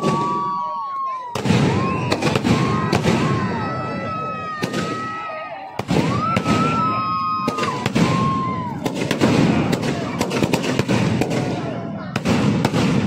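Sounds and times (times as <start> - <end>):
firework bangs and crackles: 0.0 - 13.0
shrill whistling fireworks: 0.0 - 13.0
dense background din: 1.3 - 13.0.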